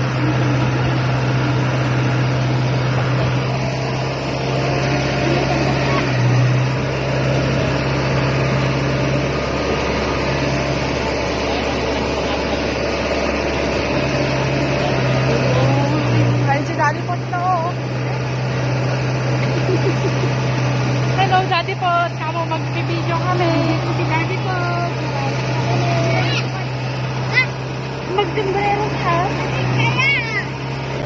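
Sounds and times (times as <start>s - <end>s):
combine harvester engine drone: 0.0s - 31.0s
machinery noise: 0.0s - 31.0s.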